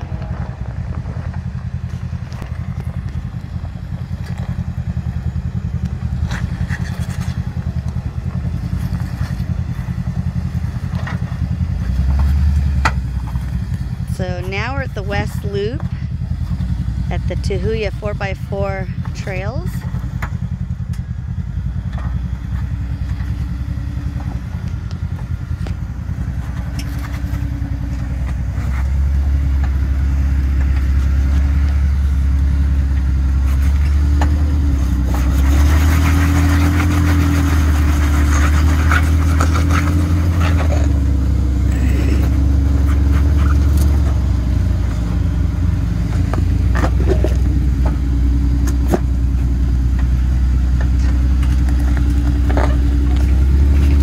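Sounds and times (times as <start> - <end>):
tyres crunching and scraping on rocks: 0.0 - 17.1, 21.8 - 54.0
car engine at low revs: 0.0 - 54.0.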